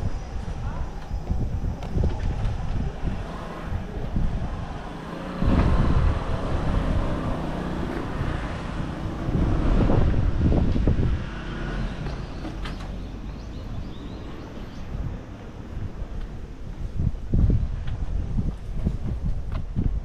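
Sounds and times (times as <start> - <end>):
street noise rumbling: 0.0 - 20.0.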